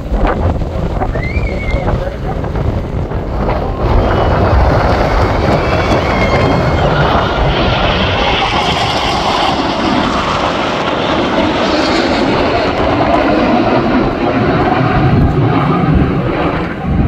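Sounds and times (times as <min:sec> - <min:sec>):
jet fighters roaring past: 0:00.0 - 0:17.0.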